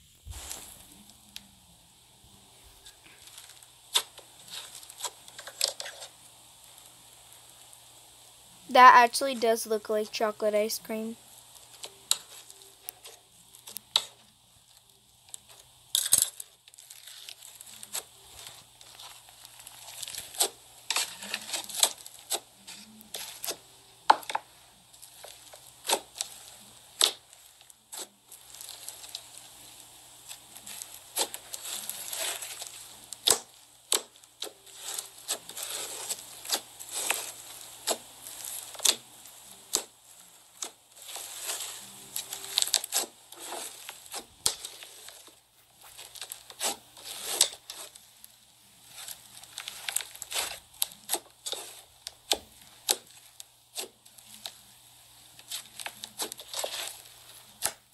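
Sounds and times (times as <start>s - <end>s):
slime crackling and popping: 2.8s - 8.4s, 11.3s - 57.9s.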